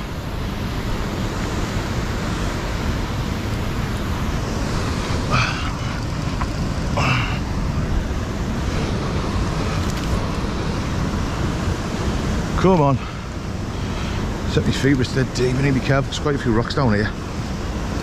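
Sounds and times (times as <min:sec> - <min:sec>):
river water rushing: 0:00.0 - 0:18.0
wind on microphone: 0:00.0 - 0:18.0.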